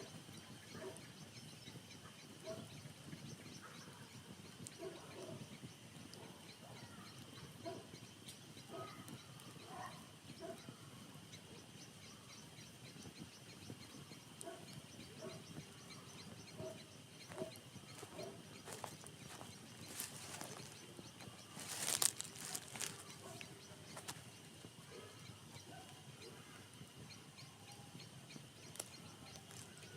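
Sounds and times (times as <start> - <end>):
campfire crackling with pops: 0.0 - 29.9
rapid high-pitched chirping: 0.0 - 29.9.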